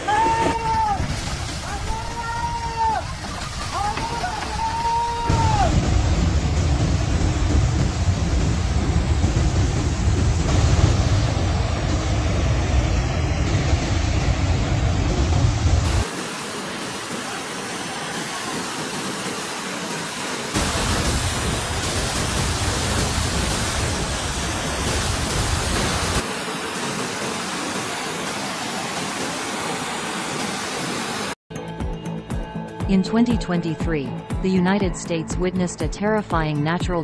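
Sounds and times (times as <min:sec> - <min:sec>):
floodwater rushing: 0:00.0 - 0:31.4.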